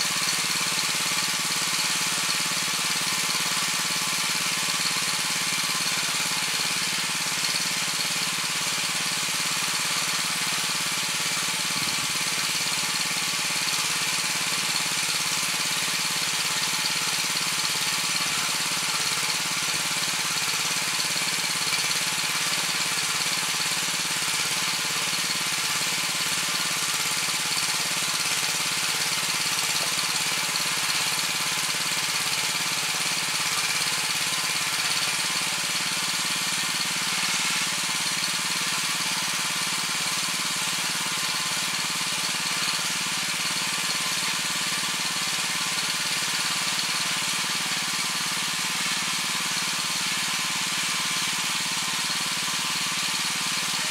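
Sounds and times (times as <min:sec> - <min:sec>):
tiller engine running: 0:00.0 - 0:53.9.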